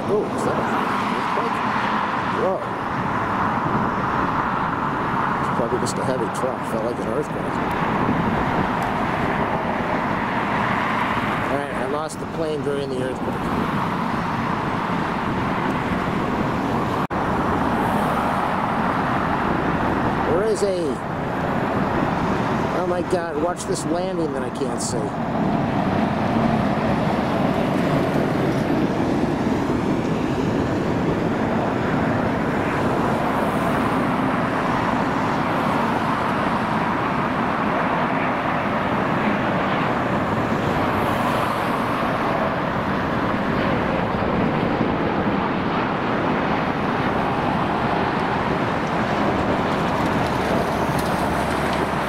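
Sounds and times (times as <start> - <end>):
jet aircraft: 0.0 - 52.0
road traffic: 0.0 - 52.0.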